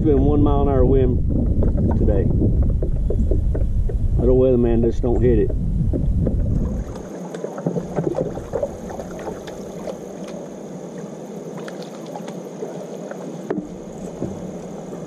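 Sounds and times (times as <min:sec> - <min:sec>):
water lapping against a hull: 0:00.0 - 0:15.0.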